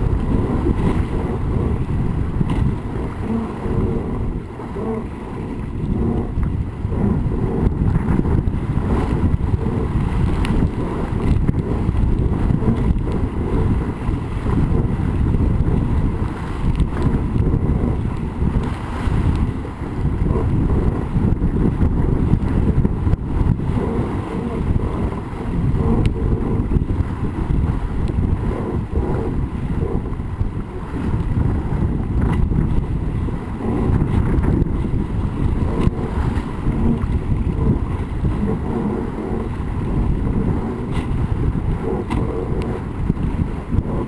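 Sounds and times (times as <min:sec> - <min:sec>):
water rushing along hull: 0:00.0 - 0:44.0
wind buffeting microphone: 0:00.0 - 0:44.0.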